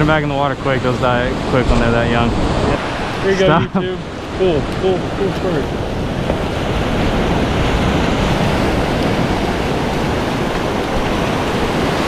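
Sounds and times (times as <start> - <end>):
ocean surf breaking: 0.0 - 12.0
wind noise on microphone: 0.0 - 12.0.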